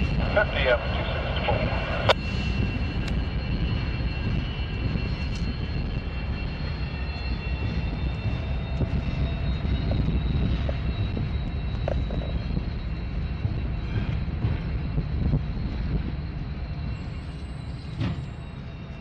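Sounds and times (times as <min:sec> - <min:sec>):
locomotive engines rumbling: 0:00.0 - 0:19.0.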